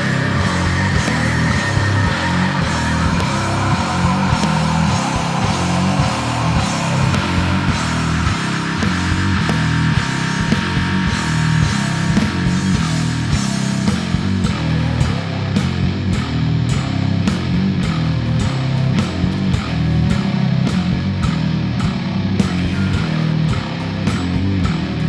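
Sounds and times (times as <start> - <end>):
bass guitar with effects: 0.0 - 25.0
drum kit: 0.0 - 25.0.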